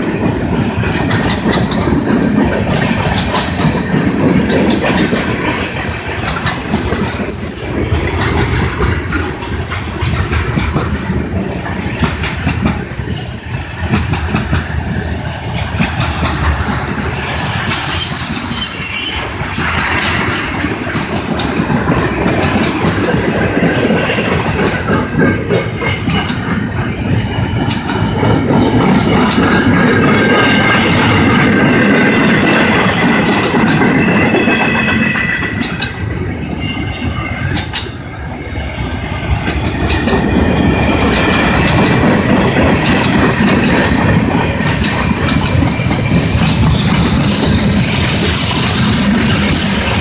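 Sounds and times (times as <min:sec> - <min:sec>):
freight train wheels clacking: 0:00.0 - 0:50.0.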